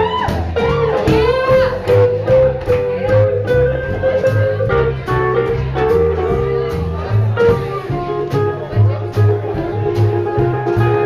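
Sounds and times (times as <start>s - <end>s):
bass line: 0.0s - 11.0s
drums: 0.0s - 11.0s
lead guitar with bent notes: 0.0s - 11.0s.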